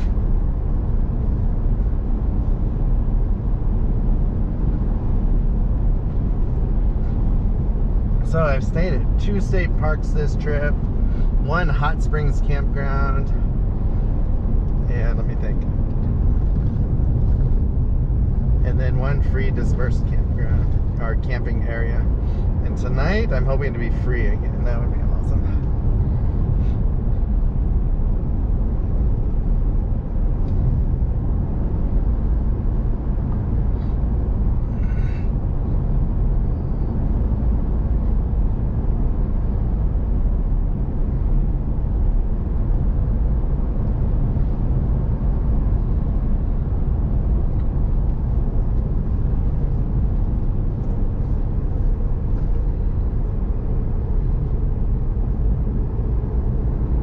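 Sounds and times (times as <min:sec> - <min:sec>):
truck engine and tyre rumble: 0:00.0 - 0:57.0.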